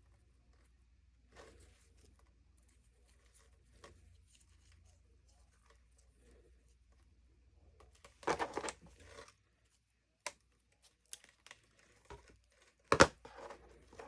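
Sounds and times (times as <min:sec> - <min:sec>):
crinkly material rustling: 0:00.0 - 0:14.0.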